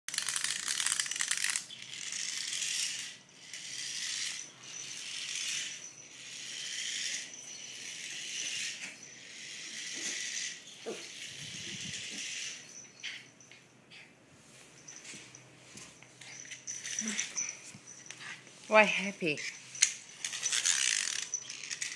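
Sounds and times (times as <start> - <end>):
mechanical toy whirring and rattling: 0.1 - 14.0, 14.8 - 21.9.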